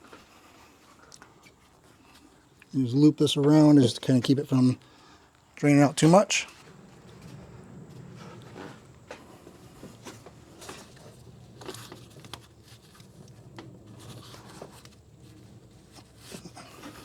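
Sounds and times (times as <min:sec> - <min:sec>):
light clicks and rustles of handling: 0:00.0 - 0:17.0
low steady hum: 0:00.0 - 0:17.0.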